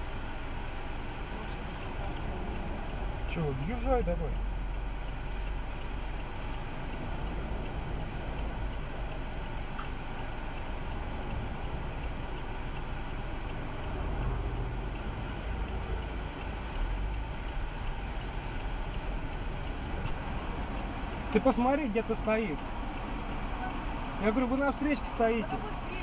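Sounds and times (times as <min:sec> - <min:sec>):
car engine and traffic rumble: 0:00.0 - 0:26.0.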